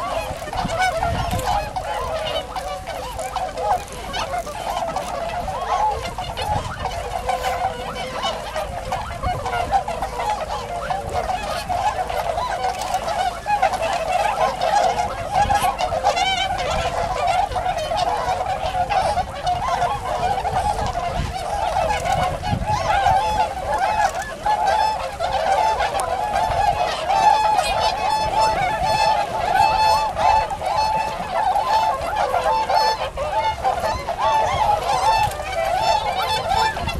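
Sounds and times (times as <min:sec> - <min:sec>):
flock of swans calling: 0:00.0 - 0:36.9.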